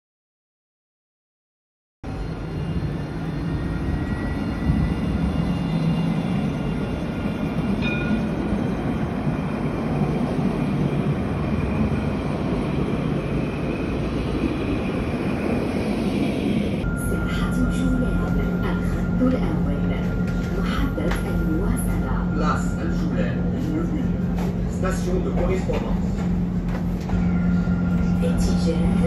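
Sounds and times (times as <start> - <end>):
tram rumbling past: 2.0 - 29.0.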